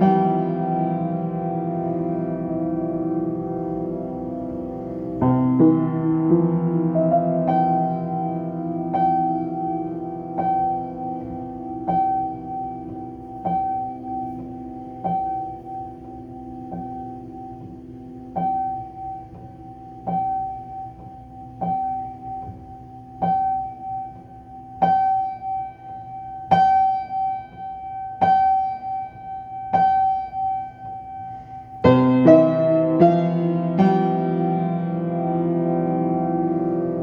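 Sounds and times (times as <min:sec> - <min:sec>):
solo piano: 0:00.0 - 0:37.0.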